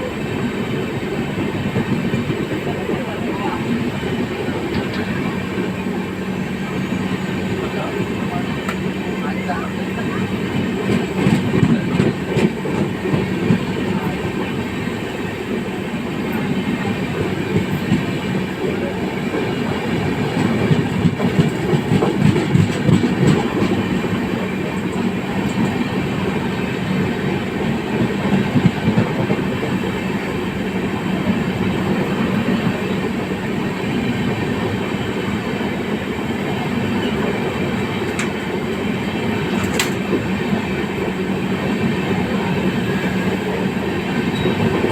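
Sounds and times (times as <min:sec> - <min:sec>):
train rolling past: 0:00.0 - 0:44.9.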